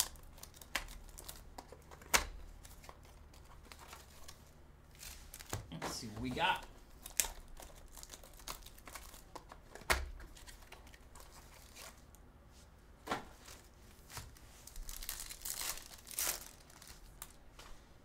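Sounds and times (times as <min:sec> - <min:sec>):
foil wrapper crinkling and tearing: 0:00.0 - 0:05.6, 0:06.4 - 0:12.0, 0:13.5 - 0:17.4
card packs handled: 0:00.0 - 0:12.2, 0:13.0 - 0:17.4.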